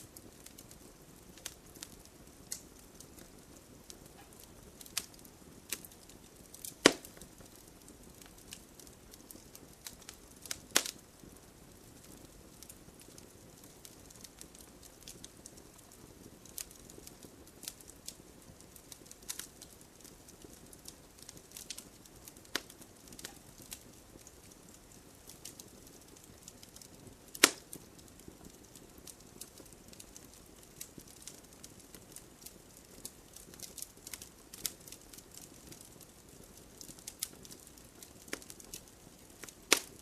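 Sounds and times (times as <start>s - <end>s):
campfire crackling: 0.0s - 40.0s.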